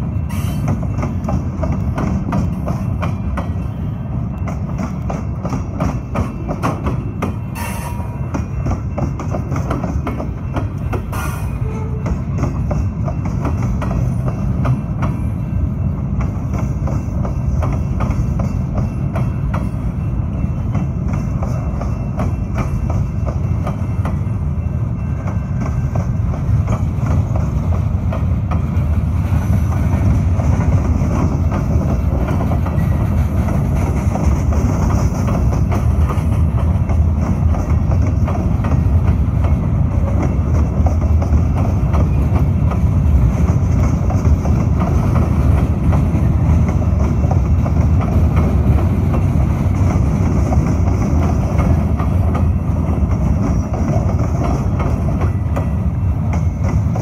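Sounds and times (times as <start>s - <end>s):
freight train rumble: 0.0s - 57.0s
steel wheels clacking on track: 0.0s - 57.0s.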